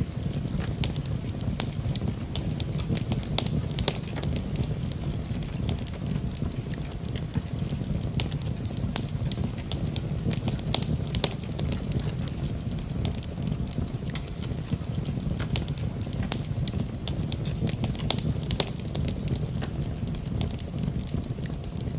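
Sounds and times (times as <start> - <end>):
burning logs crackling and popping: 0.0 - 21.9
low rumble of flames: 0.0 - 21.9.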